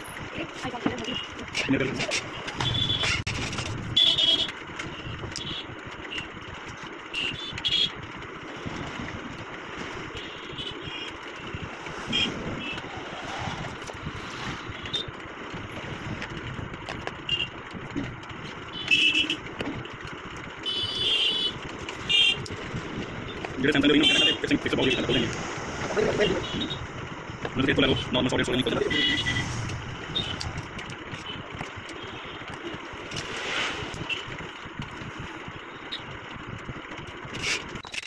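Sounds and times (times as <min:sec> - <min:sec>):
road traffic: 0:00.0 - 0:38.0.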